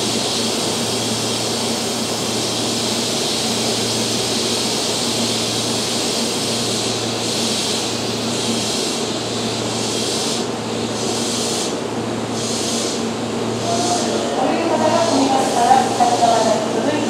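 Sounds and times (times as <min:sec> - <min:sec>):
loud hiss: 0:00.0 - 0:16.8
electric train low hum: 0:00.0 - 0:17.0.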